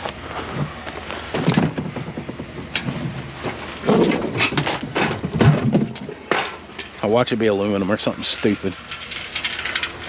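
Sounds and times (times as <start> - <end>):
scrap metal knocks and clanks: 0.4 - 7.1, 8.0 - 10.0.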